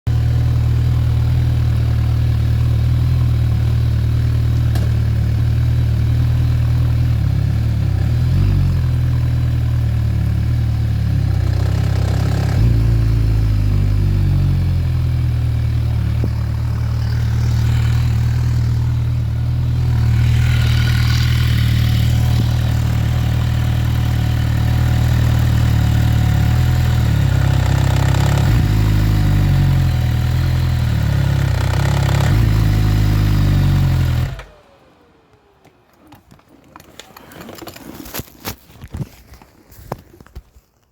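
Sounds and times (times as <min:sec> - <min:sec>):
motorcycle engine running: 0:00.1 - 0:35.7
odd engine noise: 0:00.1 - 0:39.1.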